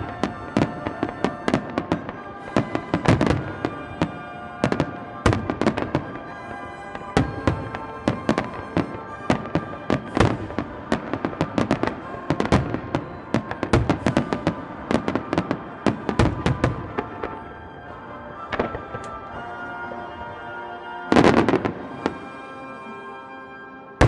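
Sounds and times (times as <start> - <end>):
fireworks bangs and crackles: 0.0 - 22.5
music: 0.0 - 24.0.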